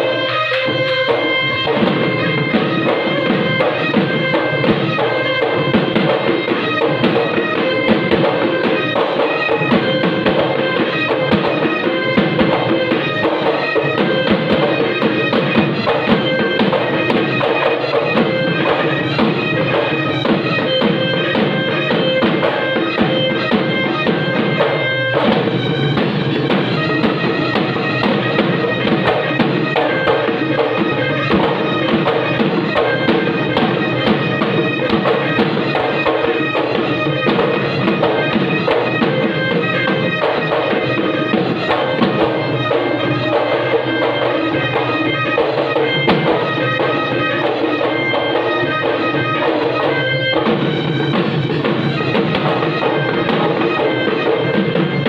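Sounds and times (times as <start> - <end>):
drums beaten in fast rhythm: 0.0 - 55.0.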